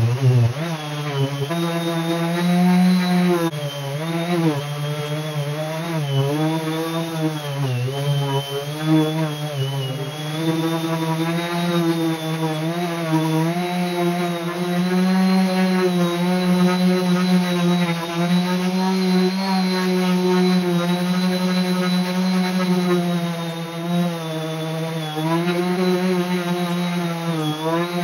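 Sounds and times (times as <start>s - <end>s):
orbital sander motor humming: 0.0s - 28.0s.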